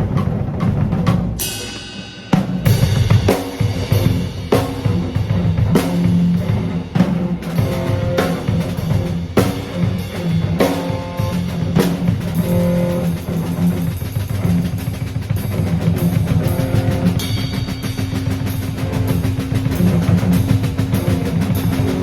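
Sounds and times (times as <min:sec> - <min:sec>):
drum kit: 0:00.0 - 0:22.0
electric bass: 0:02.7 - 0:22.0.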